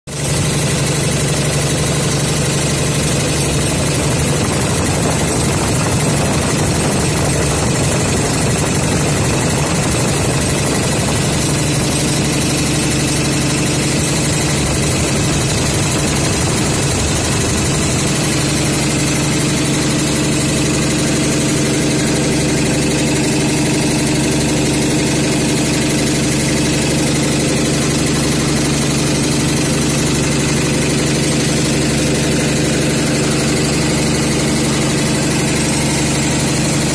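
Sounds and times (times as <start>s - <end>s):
air compressor clattering: 0.1s - 36.9s.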